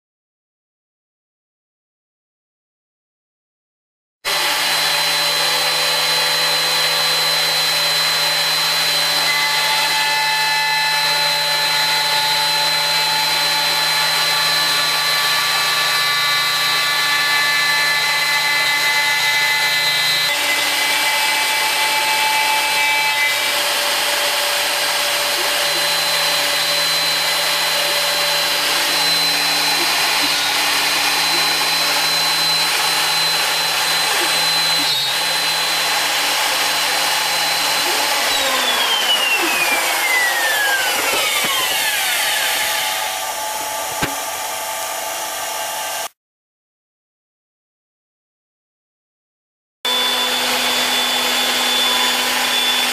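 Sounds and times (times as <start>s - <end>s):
router cutting laminate: 4.3s - 46.2s, 49.9s - 52.9s.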